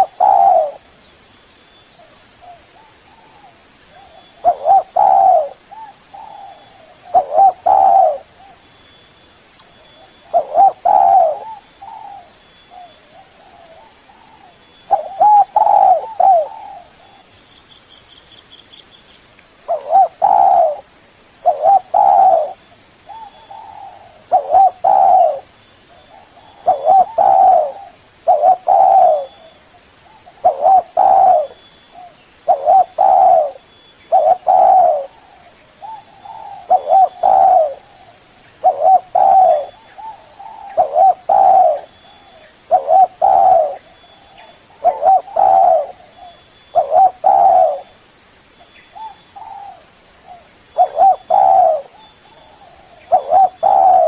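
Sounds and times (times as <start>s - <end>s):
dove cooing: 0.0s - 0.9s, 2.4s - 8.6s, 9.8s - 17.3s, 19.7s - 20.8s, 21.4s - 48.0s, 48.9s - 54.0s.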